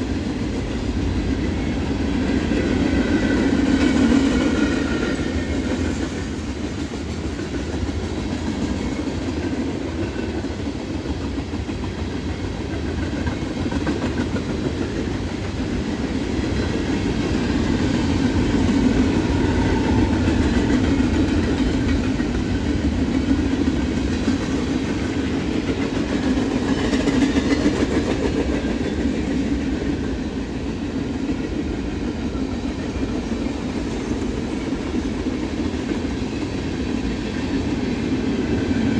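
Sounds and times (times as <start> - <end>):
steel wheels rumbling on rail: 0.0 - 38.9.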